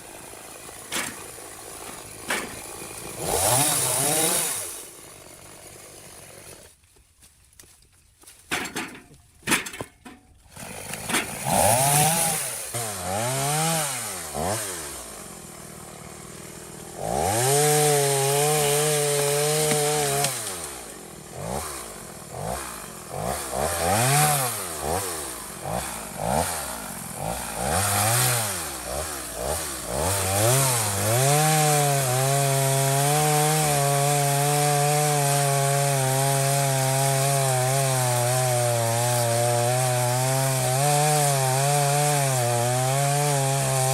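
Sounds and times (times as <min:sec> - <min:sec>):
chainsaw engine revving: 0:00.0 - 0:06.8, 0:10.5 - 0:43.9.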